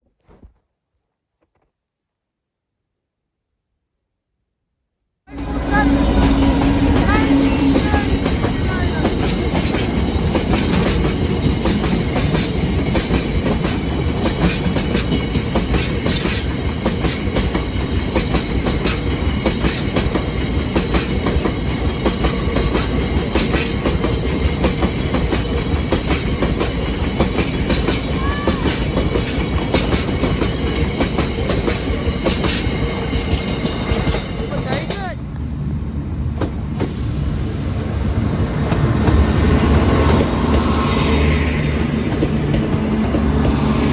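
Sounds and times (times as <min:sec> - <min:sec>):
train wheels clattering on rails: 0:05.4 - 0:35.2, 0:38.0 - 0:43.9.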